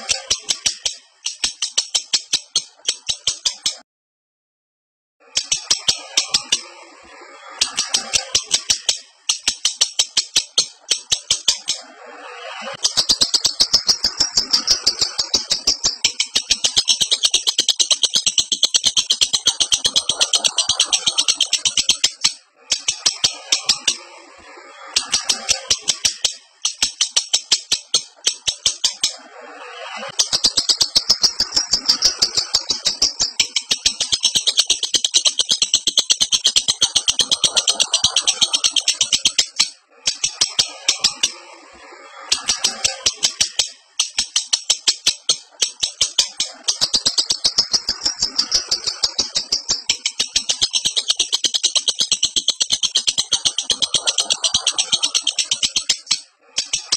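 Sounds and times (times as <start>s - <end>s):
bird chattering with sharp chirps: 0.0s - 3.8s, 5.2s - 6.8s, 7.4s - 24.2s, 24.8s - 41.6s, 42.2s - 56.9s.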